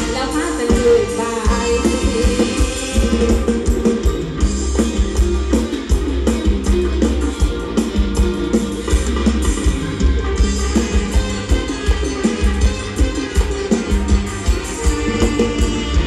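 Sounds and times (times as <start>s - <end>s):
live band with drums and bass: 0.0s - 16.0s.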